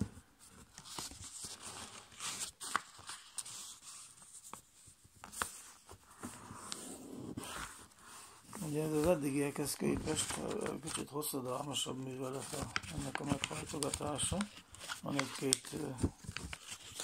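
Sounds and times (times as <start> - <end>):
paper rustling and rubbing: 0.0 - 17.0.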